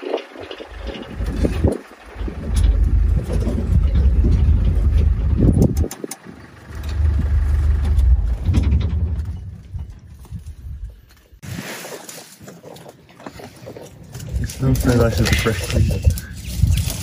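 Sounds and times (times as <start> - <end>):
vehicle engine rumble: 0.0 - 11.4, 12.6 - 17.0
wind buffeting microphone: 0.0 - 11.4, 14.0 - 17.0.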